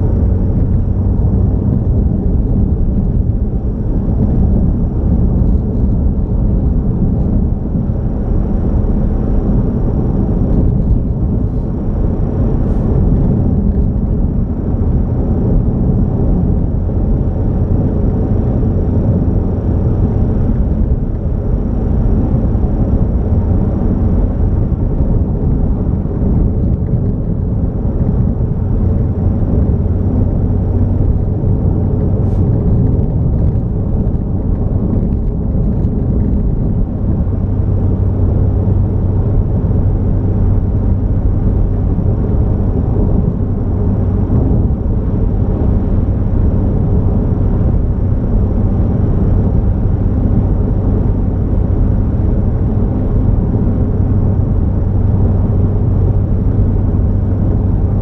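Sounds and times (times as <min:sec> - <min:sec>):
car engine and road noise: 0:00.0 - 0:58.0
low hum: 0:00.0 - 0:58.0.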